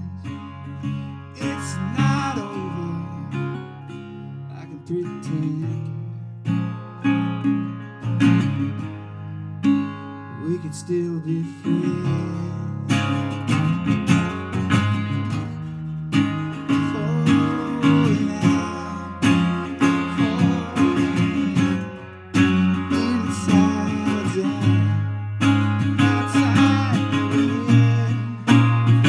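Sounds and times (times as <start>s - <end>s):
resonator guitar blues strumming: 0.0s - 29.0s.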